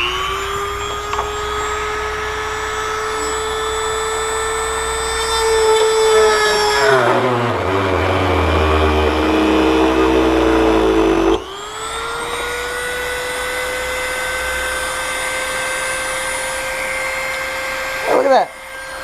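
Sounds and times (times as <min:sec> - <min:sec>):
electric drill boring plastic: 0:00.0 - 0:19.0.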